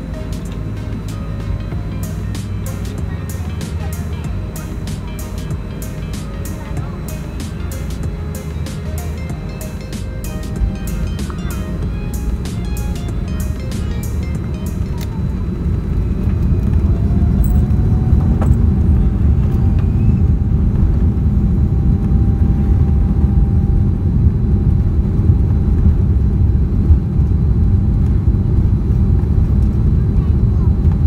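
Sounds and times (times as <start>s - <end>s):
aircraft engines rumbling in cabin: 0.0s - 31.0s
faint engine whine: 0.0s - 31.0s.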